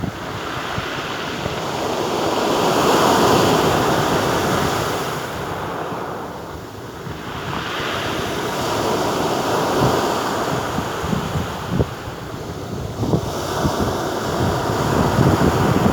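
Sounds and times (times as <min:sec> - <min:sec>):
sea surf washing onto beach: 0:00.0 - 0:15.9
wind buffeting microphone: 0:00.0 - 0:15.9.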